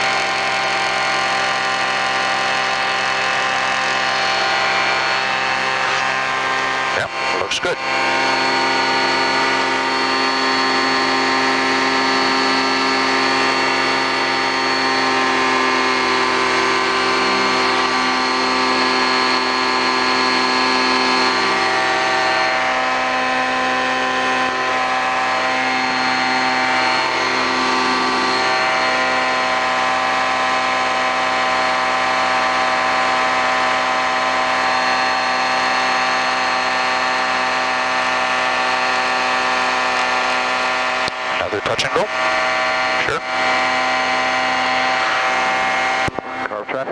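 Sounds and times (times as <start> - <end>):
ultralight aircraft engine droning: 0.0 - 46.9.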